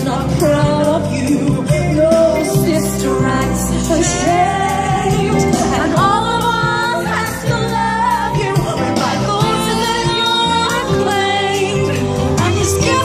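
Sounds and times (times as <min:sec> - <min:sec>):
backing music: 0:00.0 - 0:13.0
woman singing into microphone: 0:00.0 - 0:13.0.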